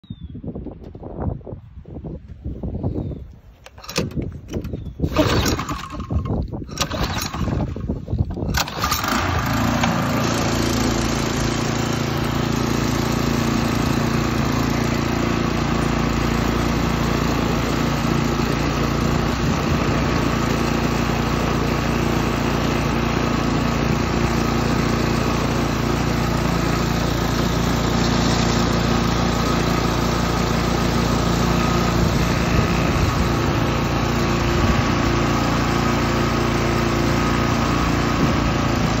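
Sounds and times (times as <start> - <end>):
lawn mower engine starting: 3.6 - 39.0.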